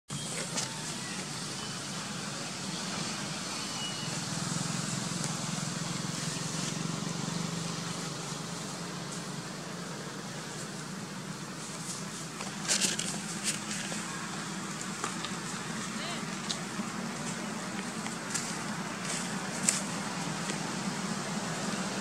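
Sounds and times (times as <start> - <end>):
low engine hum: 0.5 - 22.0.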